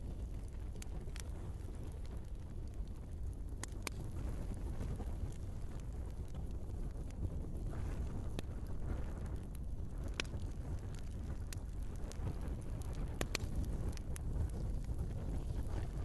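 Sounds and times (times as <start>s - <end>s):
log fire crackling and popping: 0.0s - 16.0s.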